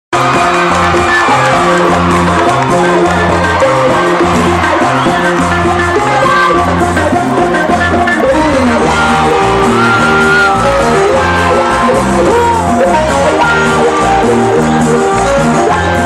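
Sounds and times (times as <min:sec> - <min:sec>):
live cumbia band music: 0:00.1 - 0:16.0
person singing: 0:00.2 - 0:16.0.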